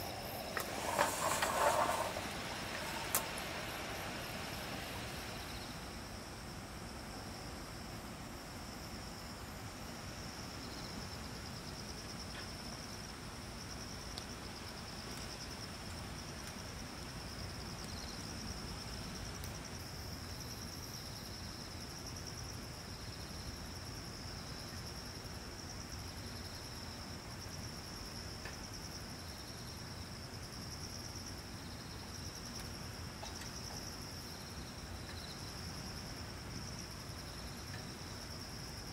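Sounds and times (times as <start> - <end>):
crickets trilling: 0.0 - 38.9
faint background hiss: 0.0 - 38.9
insect chirps: 0.0 - 38.9.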